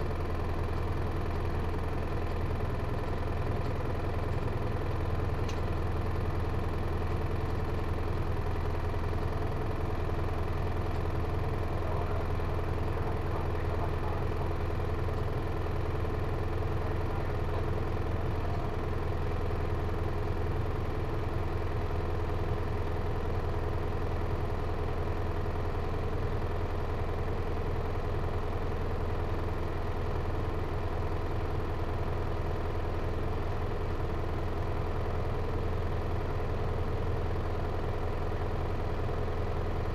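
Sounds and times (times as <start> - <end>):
diesel engine low hum: 0.0 - 39.9.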